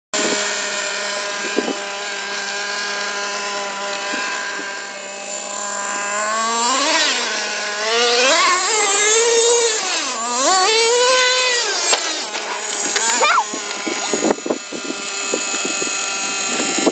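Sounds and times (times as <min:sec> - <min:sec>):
small engine idling and revving: 0:00.2 - 0:16.9.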